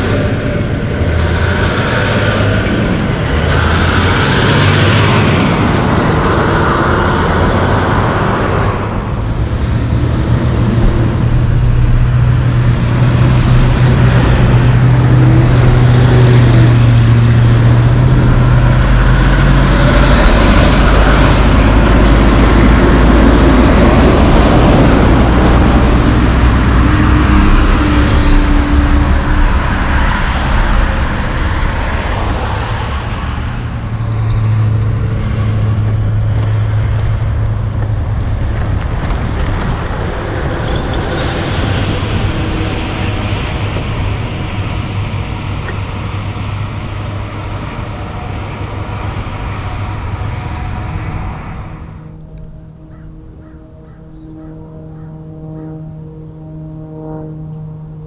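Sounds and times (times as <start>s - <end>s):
diesel trucks passing: 0.0s - 58.0s
tyre and road noise: 0.0s - 58.0s.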